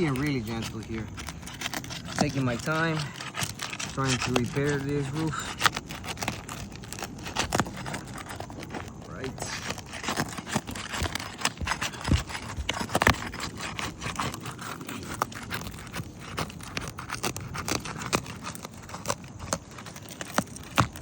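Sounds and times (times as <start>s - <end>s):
metal tool scraping under shingle: 0.0s - 21.0s.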